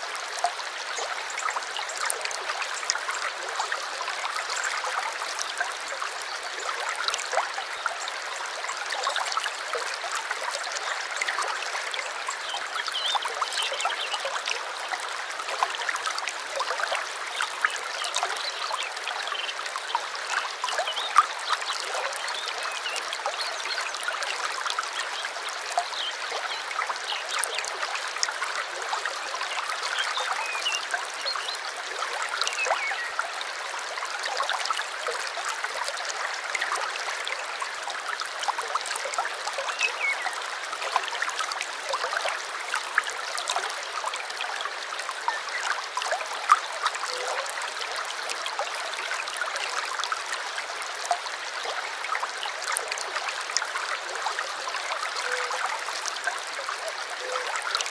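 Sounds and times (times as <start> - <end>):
stream gurgling over stones: 0.0 - 57.9.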